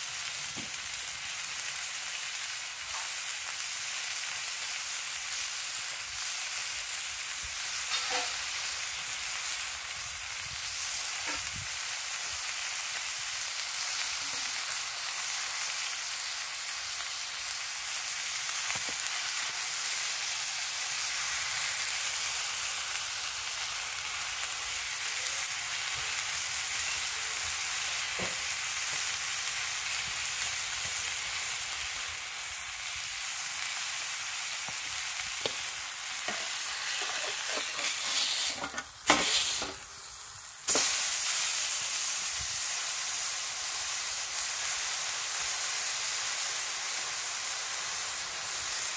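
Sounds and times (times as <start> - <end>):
burger patties sizzling in a pan: 0.0 - 48.9.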